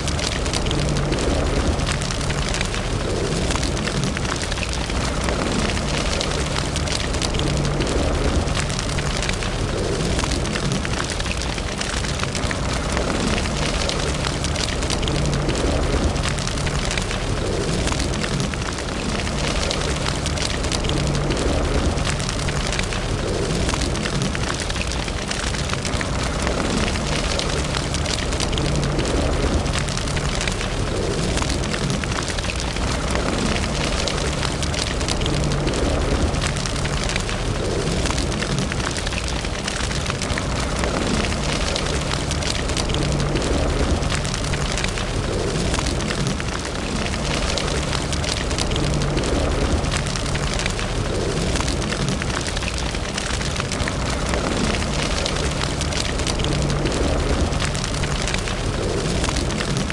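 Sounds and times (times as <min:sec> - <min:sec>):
fire crackles and pops: 0:00.0 - 0:59.9
low rumble: 0:00.0 - 0:59.9
wood fire rushing flame: 0:00.0 - 0:59.9.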